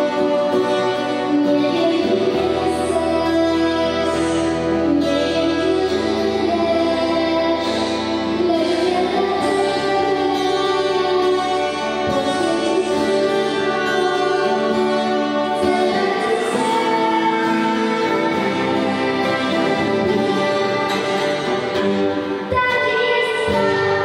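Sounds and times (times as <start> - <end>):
girl singing into a microphone: 0.0 - 24.0
instrumental backing music: 0.0 - 24.0.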